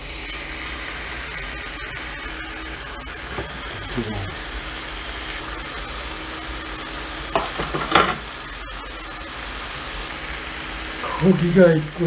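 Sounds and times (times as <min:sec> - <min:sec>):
meat sizzling on grill: 0:00.0 - 0:12.0.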